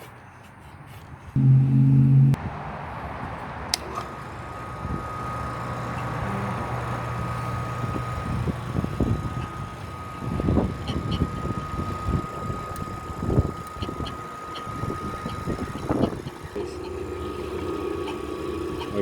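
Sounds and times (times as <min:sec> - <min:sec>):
drill press motor whining: 0:03.7 - 0:19.0.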